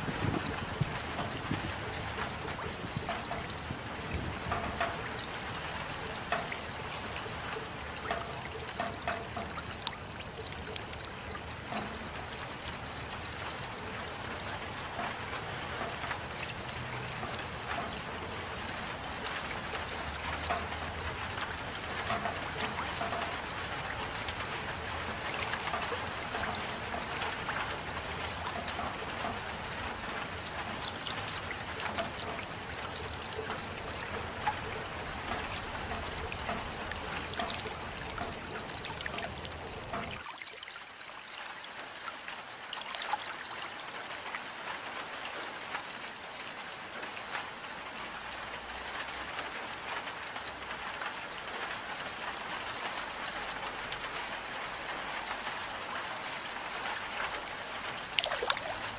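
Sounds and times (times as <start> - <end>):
steady rain: 0.0 - 58.9
water drips and splashes: 0.0 - 58.9
water trickling: 0.0 - 58.9.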